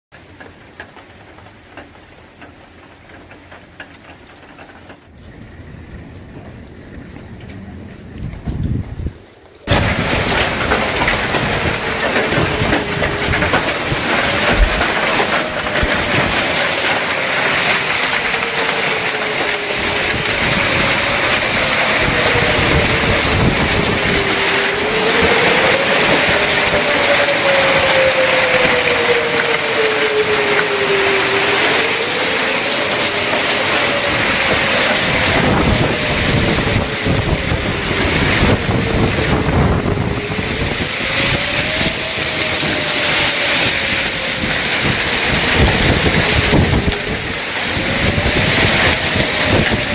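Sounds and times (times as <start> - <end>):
heavy hail and rain pounding: 0.2 - 49.9
warning siren wailing: 5.1 - 49.9.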